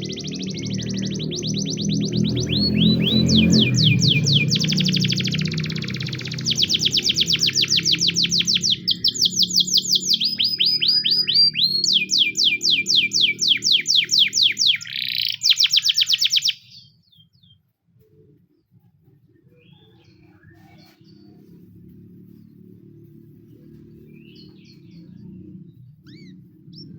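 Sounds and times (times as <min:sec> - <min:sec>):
canary singing trills: 0:00.0 - 0:17.6, 0:19.6 - 0:26.9.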